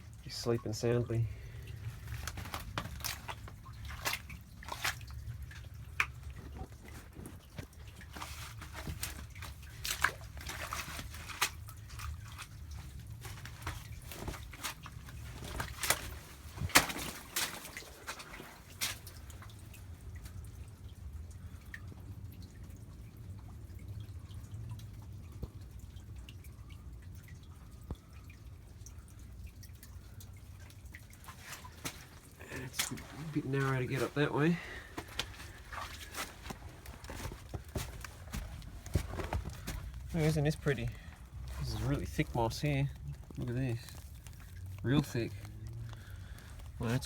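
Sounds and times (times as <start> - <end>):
creek trickling: 0.0 - 47.0
sharp drips and clicks: 0.0 - 47.0.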